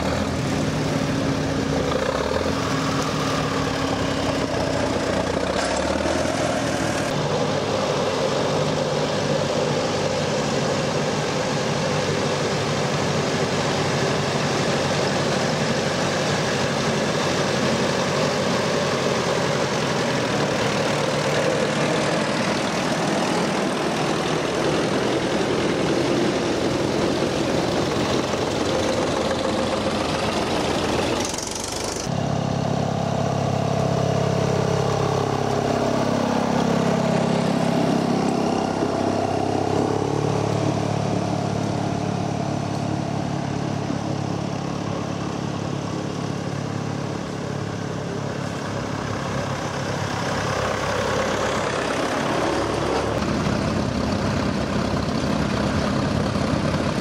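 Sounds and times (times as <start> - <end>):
tractor engines driving past: 0.0 - 57.0.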